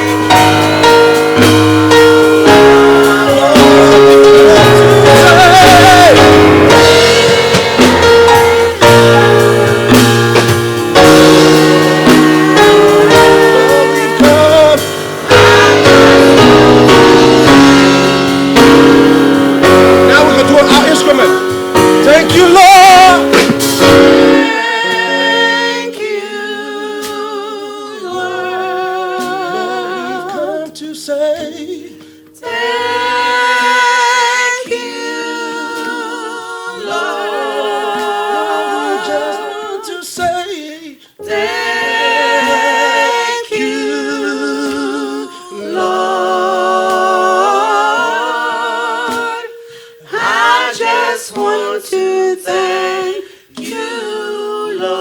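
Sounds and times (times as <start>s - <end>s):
gospel singing with vibrato: 0.0s - 55.0s
keyboard accompaniment: 0.0s - 55.0s.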